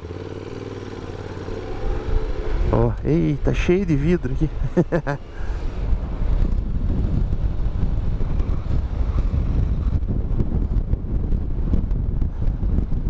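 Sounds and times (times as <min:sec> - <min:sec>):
motorcycle engine: 0:00.0 - 0:13.0
wind buffeting microphone: 0:01.0 - 0:13.0.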